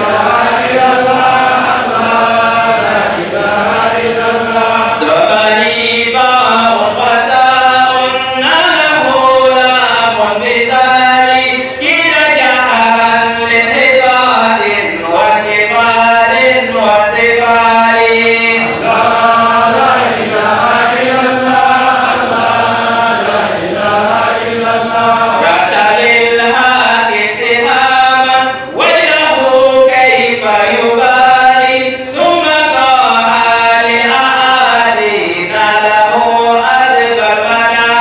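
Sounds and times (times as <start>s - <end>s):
man chanting into a microphone: 0.0s - 38.0s.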